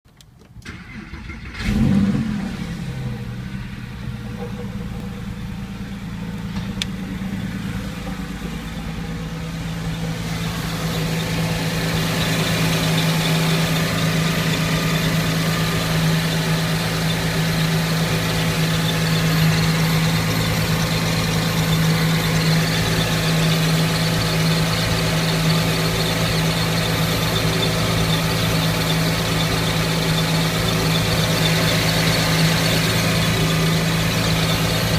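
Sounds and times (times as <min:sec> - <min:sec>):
car engine starting and running: 0:00.1 - 0:34.9.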